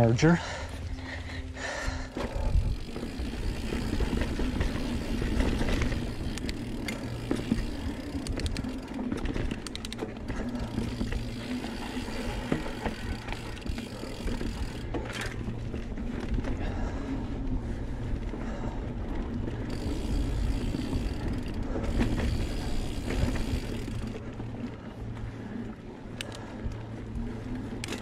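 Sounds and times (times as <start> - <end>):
bike clicks and rattles: 0.0 - 28.0
bike tyres rumbling on dirt trail: 0.0 - 28.0.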